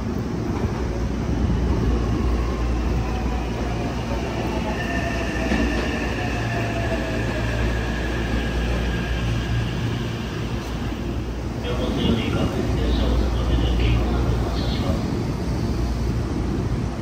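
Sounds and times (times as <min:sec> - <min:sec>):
electric train rumbling: 0:00.0 - 0:17.0
thin train whine: 0:00.0 - 0:17.0.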